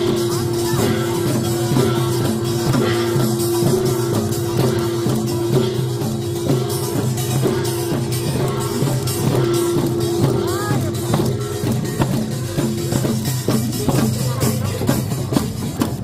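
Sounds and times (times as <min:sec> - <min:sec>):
drums beaten with sticks: 0:00.0 - 0:16.0.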